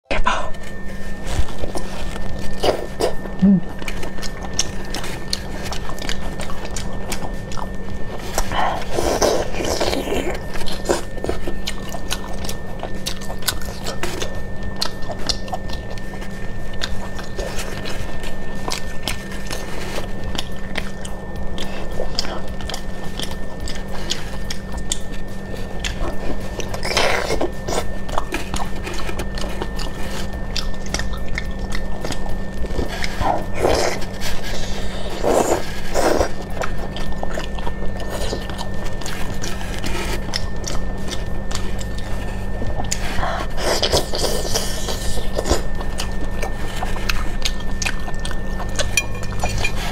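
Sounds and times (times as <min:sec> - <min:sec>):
steady low hum: 0:00.0 - 0:49.9
wet chewing: 0:00.5 - 0:49.9.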